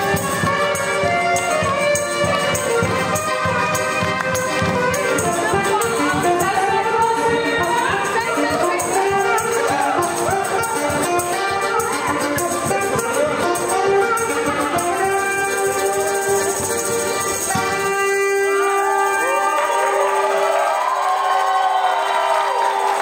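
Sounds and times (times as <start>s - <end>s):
accordion: 0.0s - 20.7s
band playing dance tune: 0.0s - 23.0s
tambourine: 0.0s - 23.0s.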